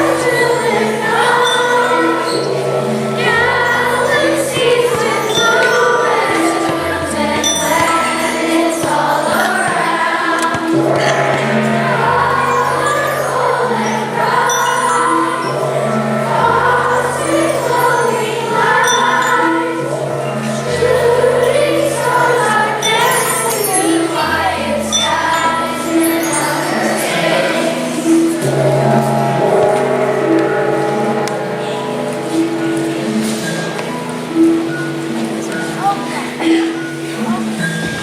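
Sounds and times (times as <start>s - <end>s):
choir singing: 0.0s - 38.0s
instrumental accompaniment: 0.0s - 38.0s.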